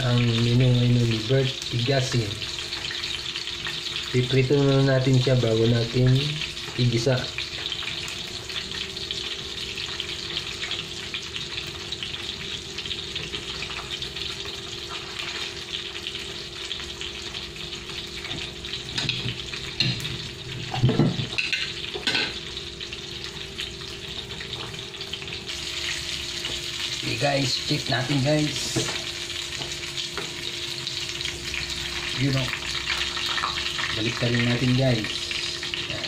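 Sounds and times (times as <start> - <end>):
fish sizzling in a pan: 0.0 - 36.0.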